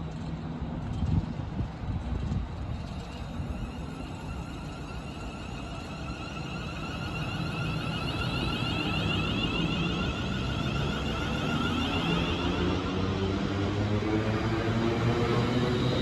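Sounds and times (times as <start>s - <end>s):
train rumble: 0.0s - 16.0s
high-pitched wavering whine: 2.1s - 16.0s.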